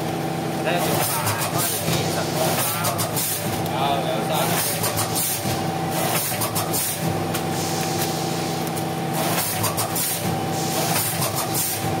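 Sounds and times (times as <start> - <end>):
packing machine humming: 0.0 - 12.0.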